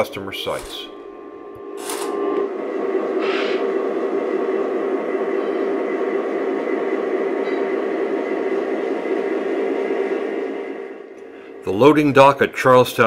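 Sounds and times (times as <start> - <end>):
conveyor motor buzzing: 0.0 - 13.0.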